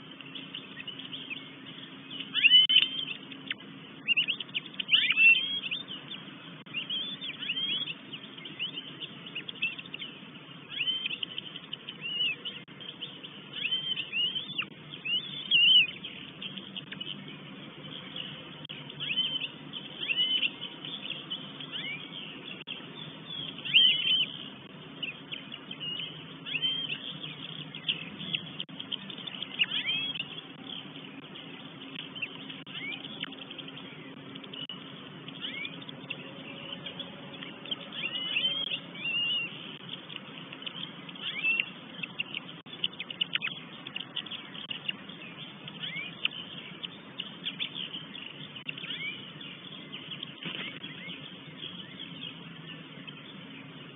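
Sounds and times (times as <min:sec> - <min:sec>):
birds calling: 0:00.0 - 0:53.9
faint low hum: 0:00.0 - 0:53.9.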